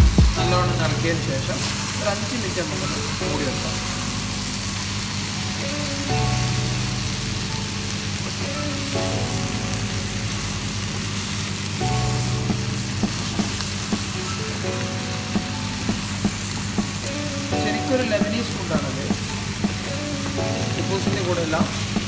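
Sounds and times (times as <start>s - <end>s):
food sizzling in a frying pan: 0.3s - 22.0s.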